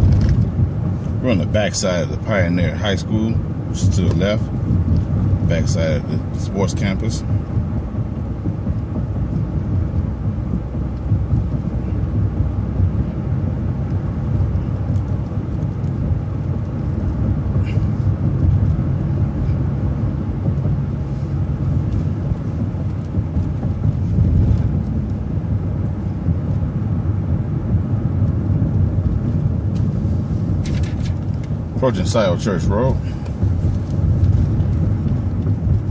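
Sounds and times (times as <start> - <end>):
bus engine and road rumble: 0.0 - 35.9.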